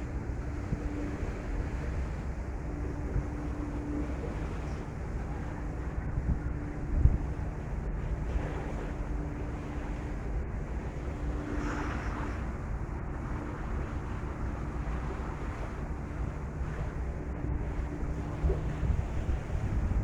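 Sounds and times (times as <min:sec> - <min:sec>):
water washing past hull: 0:00.0 - 0:20.0
wind buffeting microphone: 0:00.0 - 0:20.0.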